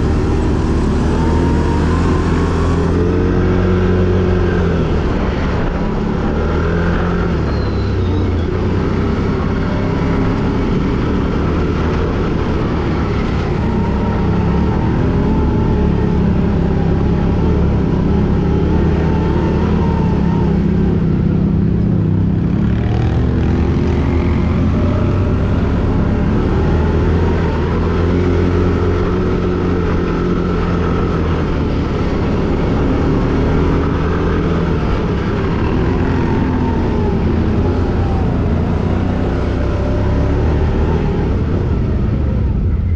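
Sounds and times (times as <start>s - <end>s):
quad bike engine running: 0.0s - 42.9s.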